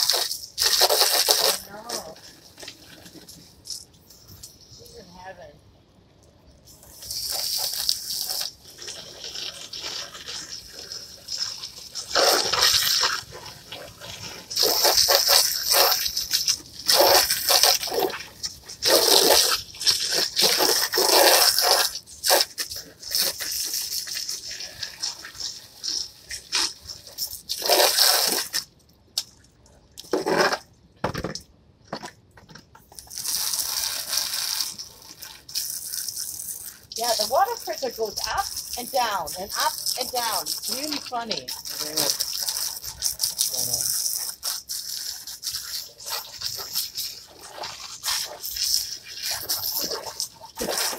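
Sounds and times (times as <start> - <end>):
hose spray hissing: 0.0 - 5.0, 6.6 - 28.6, 33.0 - 50.9.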